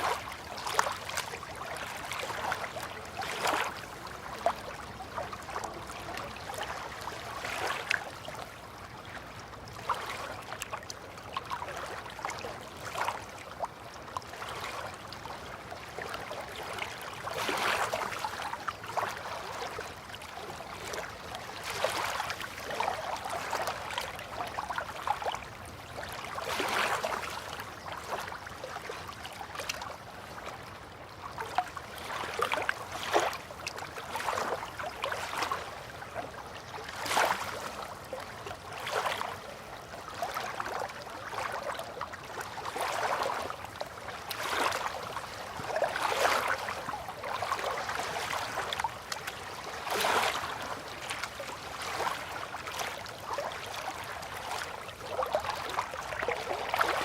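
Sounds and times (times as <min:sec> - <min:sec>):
small water splashes and trickles: 0:00.0 - 0:57.0
water lapping: 0:00.0 - 0:57.0.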